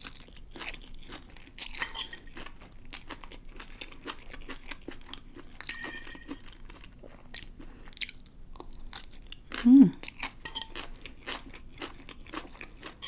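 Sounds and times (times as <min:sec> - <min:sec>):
close chewing of crunchy noodles: 0:00.0 - 0:13.0.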